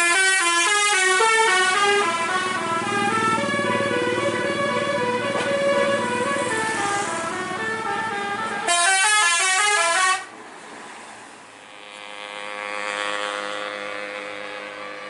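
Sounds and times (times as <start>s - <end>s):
bus musical horn: 0.0s - 10.4s, 11.6s - 15.0s.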